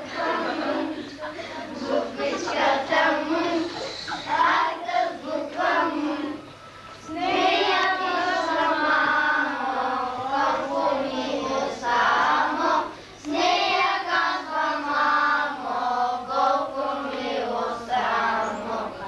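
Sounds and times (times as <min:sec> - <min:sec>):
children singing in unison: 0:00.0 - 0:19.0.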